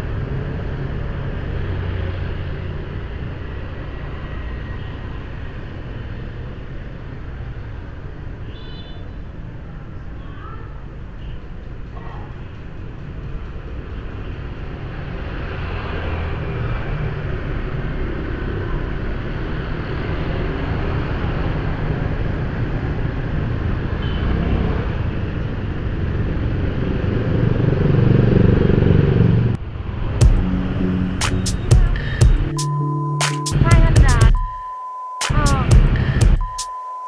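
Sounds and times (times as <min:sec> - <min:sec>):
small engines and road noise: 0:00.0 - 0:34.6.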